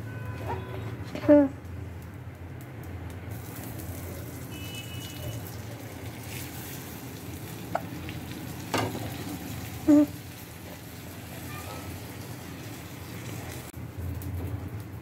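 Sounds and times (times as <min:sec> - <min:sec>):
butter sizzling in a frying pan: 0:02.9 - 0:15.0.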